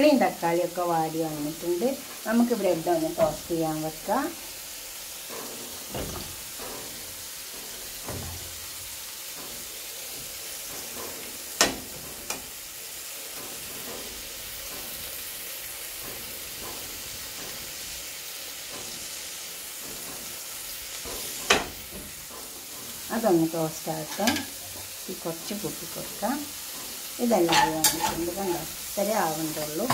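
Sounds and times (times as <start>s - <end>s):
oil sizzling in a pan: 0.0s - 29.9s.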